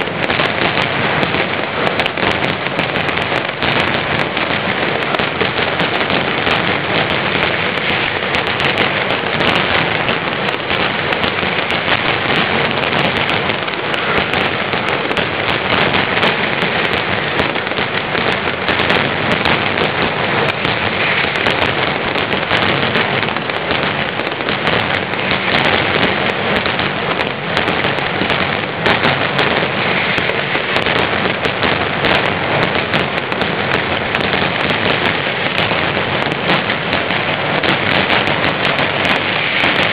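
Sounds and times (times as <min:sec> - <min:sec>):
firecracker barrage crackling: 0:00.0 - 0:39.9.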